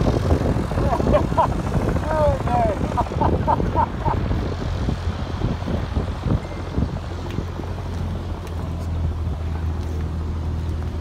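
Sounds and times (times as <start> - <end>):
engine droning with uneven rumble: 0.0 - 11.0.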